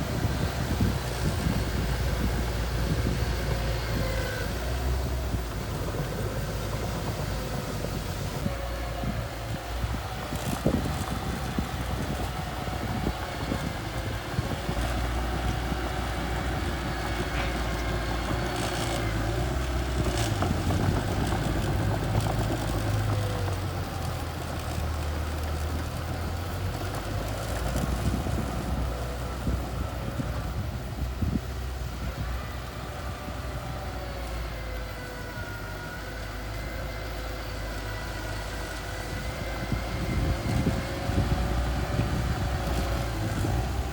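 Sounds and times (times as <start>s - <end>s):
bulldozer engine droning: 0.0s - 43.9s.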